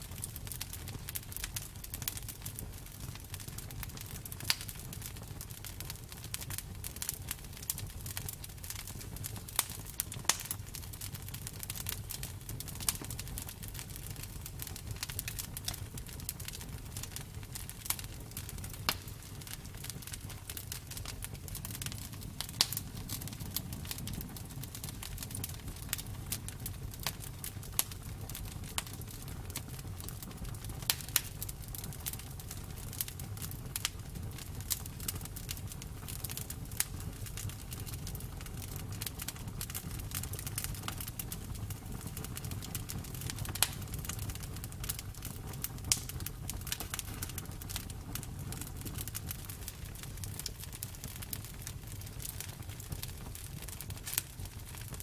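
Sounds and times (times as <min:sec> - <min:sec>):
bonfire crackling and popping: 0:00.0 - 0:55.0
rumble of burning flames: 0:00.0 - 0:55.0.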